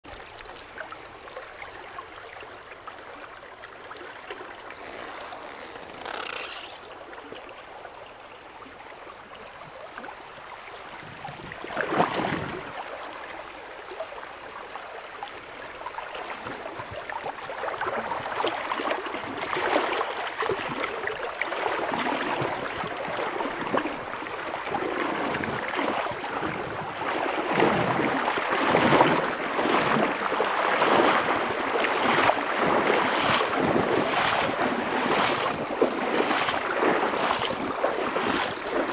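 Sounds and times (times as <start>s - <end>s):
river water rippling over shallows: 0.0s - 38.9s.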